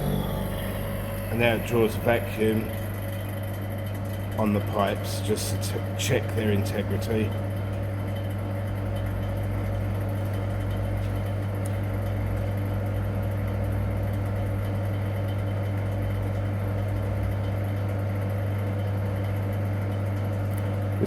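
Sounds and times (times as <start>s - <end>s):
vacuum pump humming: 0.0s - 21.0s.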